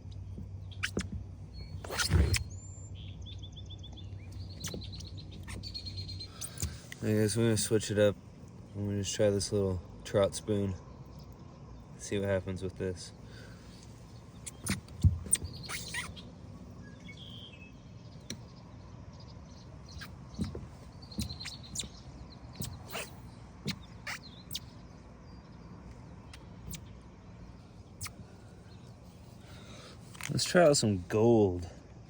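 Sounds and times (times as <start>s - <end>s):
bird chirps: 0.0s - 7.8s, 13.2s - 31.3s.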